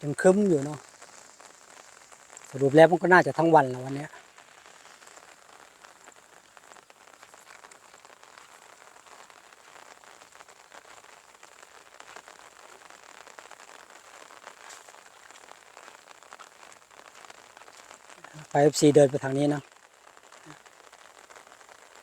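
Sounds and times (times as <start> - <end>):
light rain falling: 0.0 - 22.0.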